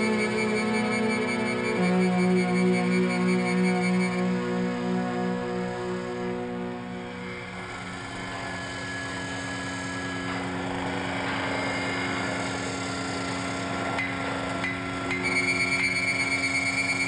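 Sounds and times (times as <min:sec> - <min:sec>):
high machine whine: 0:00.0 - 0:17.0
low mechanical drone: 0:00.0 - 0:17.0.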